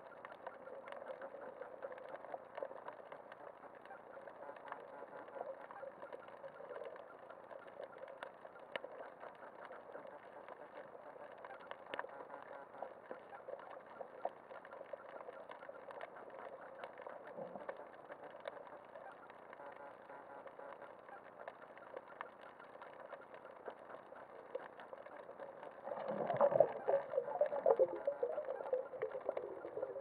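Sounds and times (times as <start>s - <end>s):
low underwater hiss: 0.0s - 30.0s
underwater clicking and crackling: 0.0s - 30.0s.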